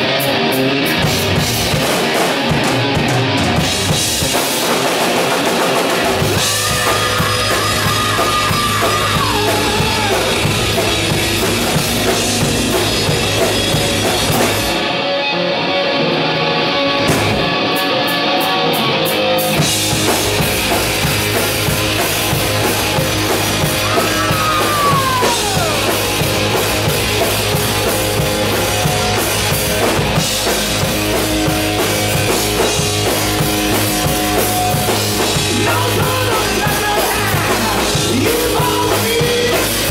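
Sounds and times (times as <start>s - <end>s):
drum kit: 0.0s - 15.2s, 16.9s - 39.9s
bass guitar: 0.0s - 39.9s
bent lead guitar notes: 0.0s - 39.9s
electric guitars: 0.0s - 39.9s.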